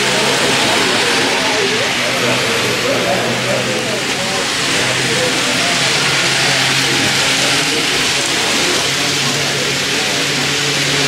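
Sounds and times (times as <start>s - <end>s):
faint murmured voices: 0.0s - 11.0s.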